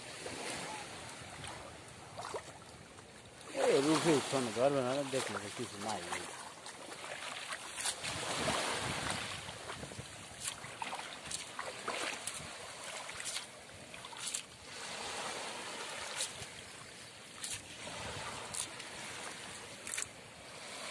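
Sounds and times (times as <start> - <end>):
water sloshing and splashing: 0.0 - 20.9.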